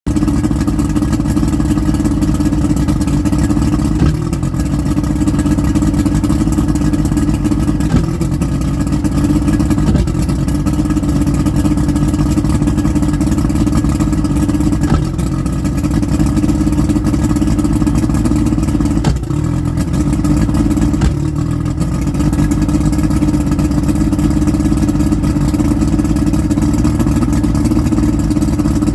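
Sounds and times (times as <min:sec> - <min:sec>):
engine idling rough: 0:00.0 - 0:28.9.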